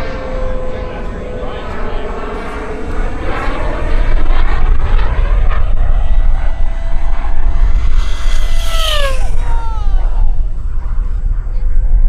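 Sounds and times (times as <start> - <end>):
faint turbine whine: 0.0 - 12.0
model jet turbine roaring: 0.0 - 12.0.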